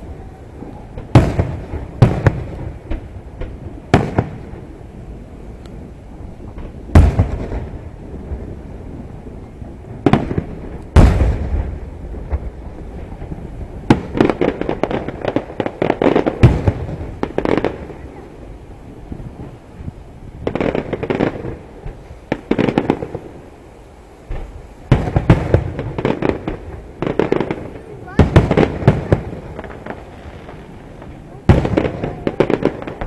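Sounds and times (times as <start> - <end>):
firework pops and crackles: 0.0 - 18.5, 19.1 - 23.5, 24.2 - 33.0
fireworks booming: 0.0 - 33.0.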